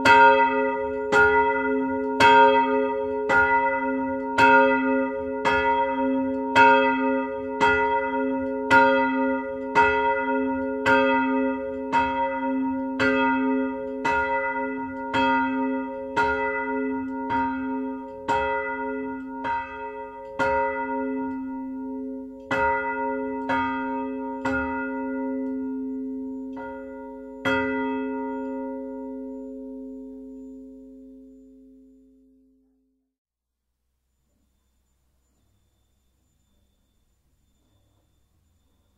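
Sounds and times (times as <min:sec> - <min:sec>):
church bells ringing: 0:00.0 - 0:32.6.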